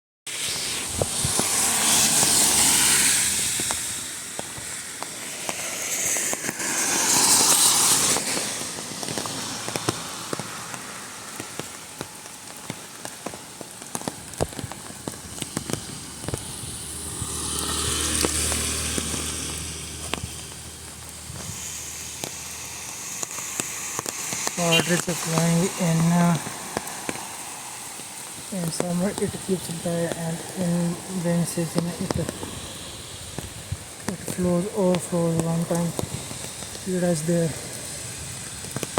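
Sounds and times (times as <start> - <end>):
flowing water: 0.3 - 38.9
rain drops ticking and crackling: 0.3 - 38.9
rushing hiss of rain: 0.3 - 38.9.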